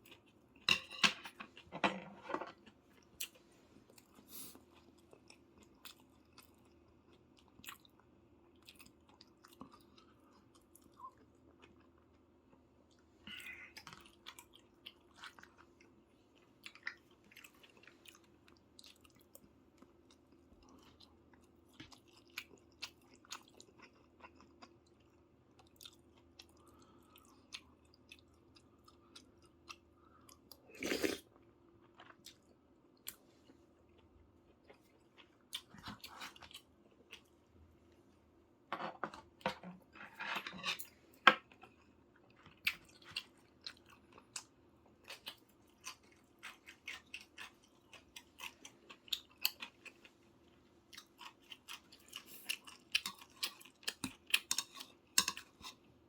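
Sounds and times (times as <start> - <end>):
person chewing with wet smacks: 2.6 - 31.2, 31.8 - 33.2, 33.9 - 37.4, 41.4 - 55.9.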